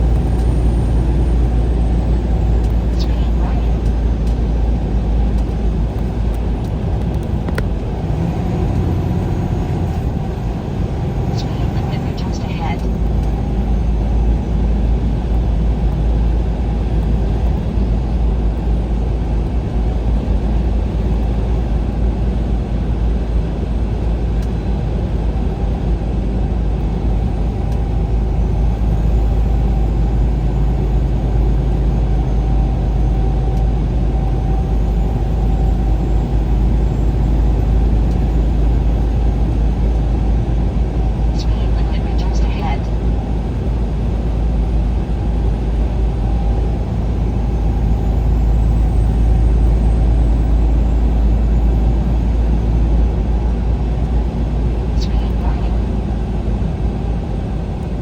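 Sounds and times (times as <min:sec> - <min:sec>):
vehicle engine and tyre drone: 0:00.0 - 0:58.0.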